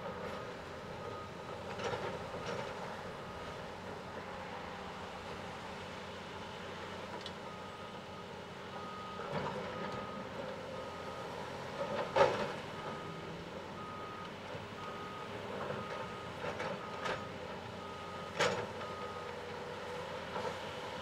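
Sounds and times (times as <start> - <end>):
diesel excavator engines running: 0.0 - 21.0.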